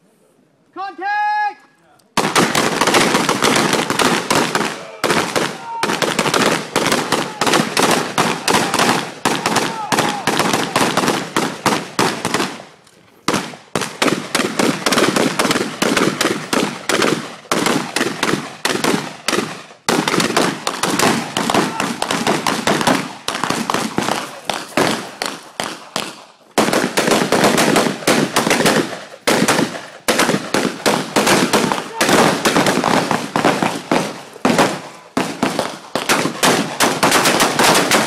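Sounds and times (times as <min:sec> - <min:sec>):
rapid rifle gunshots: 0:02.2 - 0:12.7, 0:13.3 - 0:38.0.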